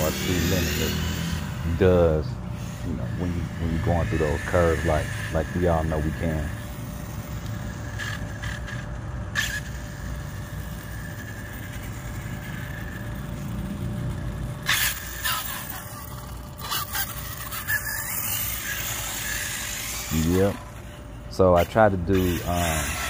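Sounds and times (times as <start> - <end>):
electric motor whine: 0.0 - 23.0.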